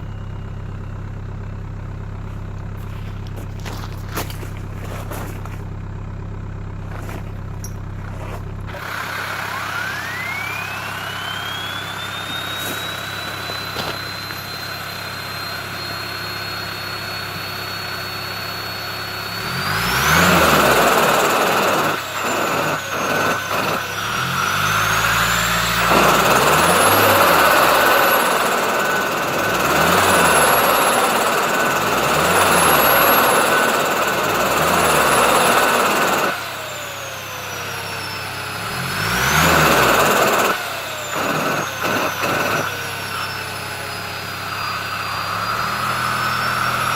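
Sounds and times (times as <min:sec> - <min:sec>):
high turbo whine: 0:00.0 - 0:46.9
turbocharged engine revving: 0:06.7 - 0:46.9.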